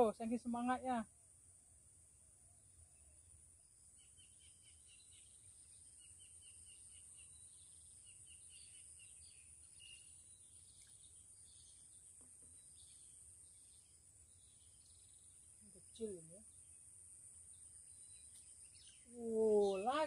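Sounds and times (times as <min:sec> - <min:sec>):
small bird chirping: 0:03.0 - 0:20.0.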